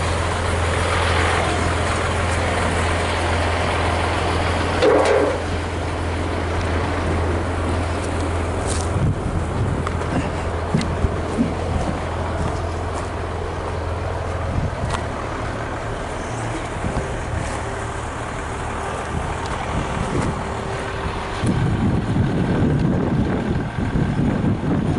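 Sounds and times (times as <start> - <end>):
vehicle engine running: 0.0 - 24.9.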